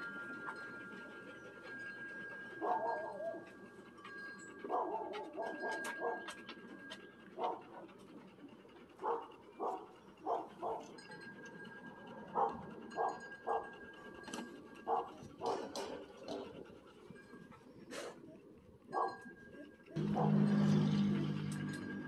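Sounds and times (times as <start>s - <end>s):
dogs barking: 0.0s - 11.2s, 12.2s - 21.7s.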